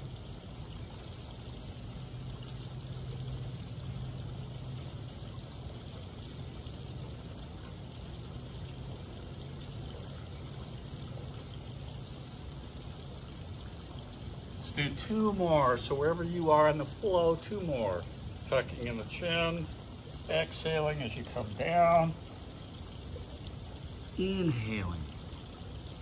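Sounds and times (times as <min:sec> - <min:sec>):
water spilling into pool: 0:00.0 - 0:26.0.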